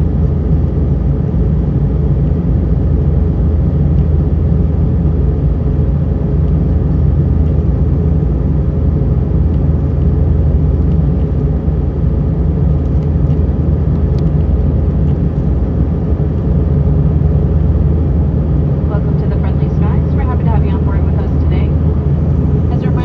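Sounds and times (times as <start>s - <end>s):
airplane cabin drone: 0.0s - 23.0s.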